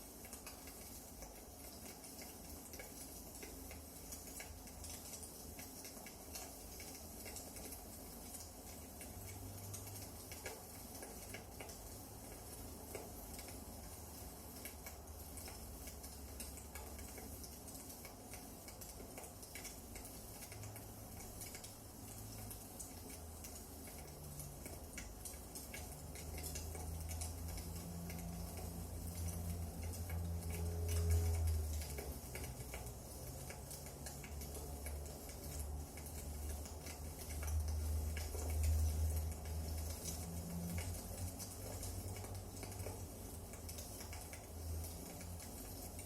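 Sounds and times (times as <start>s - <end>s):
low fire rumble: 0.0s - 46.0s
wood fire crackling: 0.0s - 46.0s.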